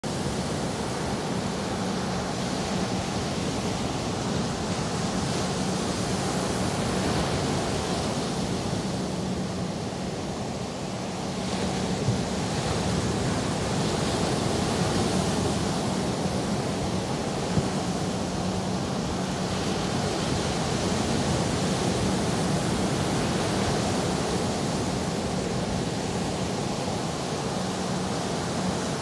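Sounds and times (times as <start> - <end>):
waves breaking on beach: 0.0 - 29.0.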